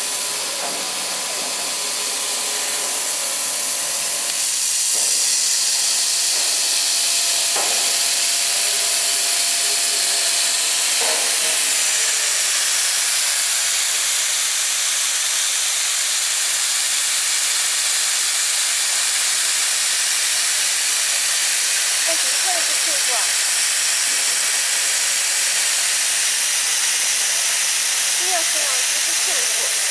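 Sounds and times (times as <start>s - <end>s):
high air hiss: 0.0s - 29.9s.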